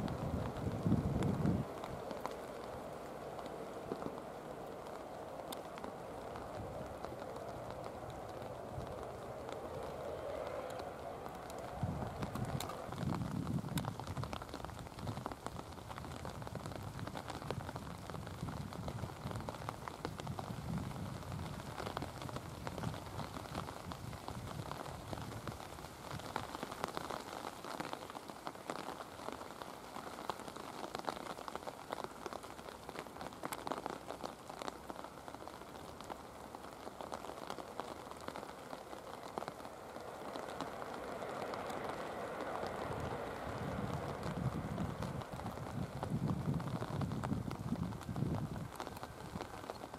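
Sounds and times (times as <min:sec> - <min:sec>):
heavy rain pattering: 0:00.0 - 0:49.9.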